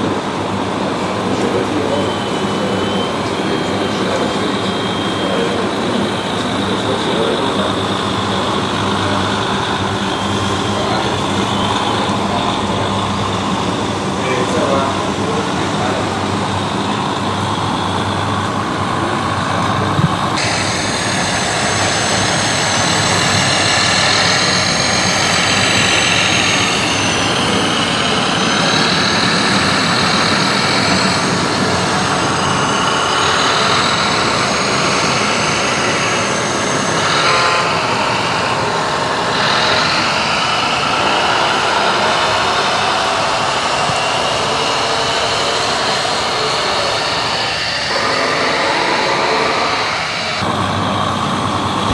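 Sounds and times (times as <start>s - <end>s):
electric motor whine: 0.0s - 51.9s
higher whine: 0.0s - 51.9s.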